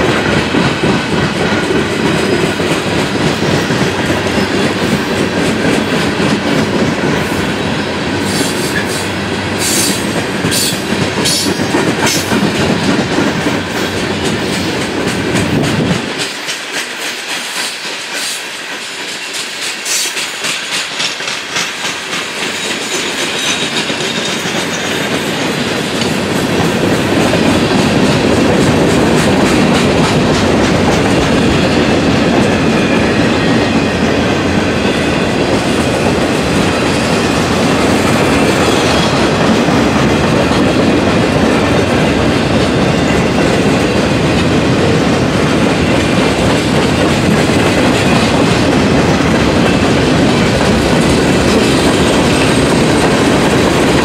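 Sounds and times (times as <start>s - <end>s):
freight train rumble: 0.0s - 54.0s
train wheels clicking over rail joints: 0.0s - 54.0s.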